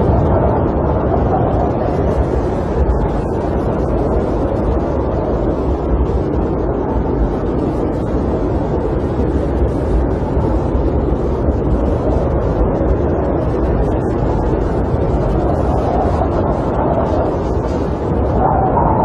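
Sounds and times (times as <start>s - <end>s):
snowstorm wind rushing: 0.0s - 19.0s.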